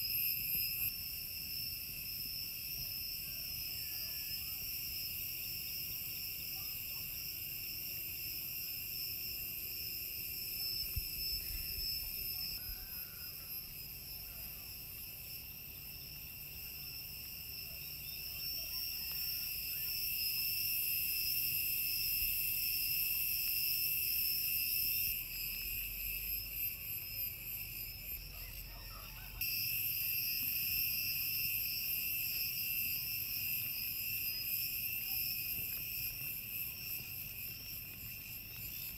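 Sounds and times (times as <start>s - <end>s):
shrill insect chorus: 0.0s - 38.9s.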